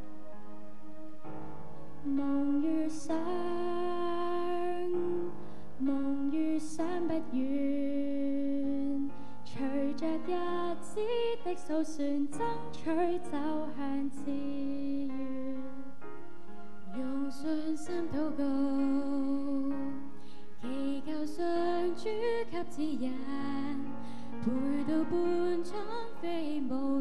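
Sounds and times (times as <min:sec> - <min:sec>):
piano accompaniment: 0:00.0 - 0:27.0.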